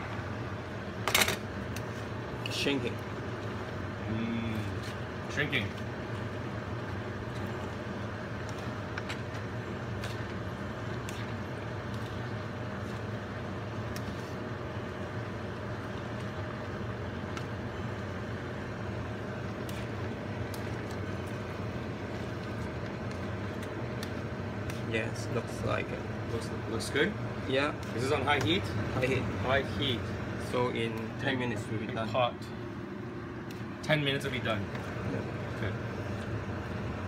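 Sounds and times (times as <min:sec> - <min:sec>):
mechanical hum: 0:00.0 - 0:37.0.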